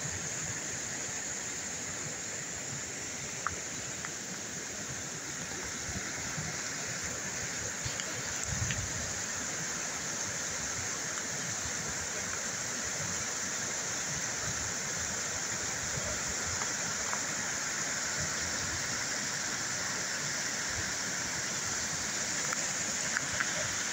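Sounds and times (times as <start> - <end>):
creek cascade rushing over rocks: 0.0 - 23.9.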